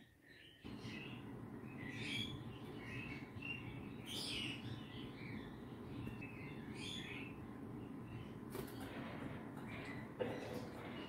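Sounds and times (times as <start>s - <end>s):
small bird chirping: 0.0s - 9.0s
low room hum: 0.0s - 11.0s.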